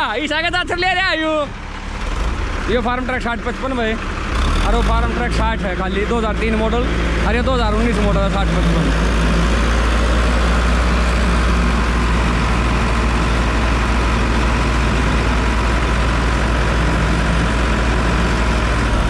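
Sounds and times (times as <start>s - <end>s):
tractor diesel engine rumbling: 0.0s - 19.0s.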